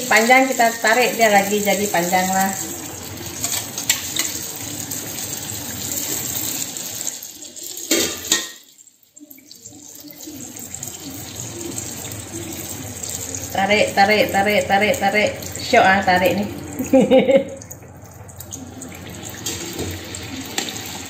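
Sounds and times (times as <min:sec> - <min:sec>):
dough sizzling in deep oil: 0:00.0 - 0:21.0.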